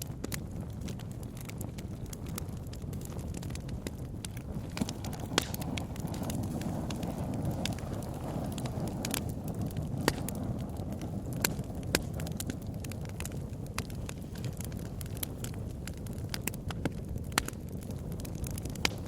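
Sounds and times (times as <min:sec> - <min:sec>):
bonfire crackling and popping: 0:00.0 - 0:19.0
fire low rush: 0:00.0 - 0:19.0.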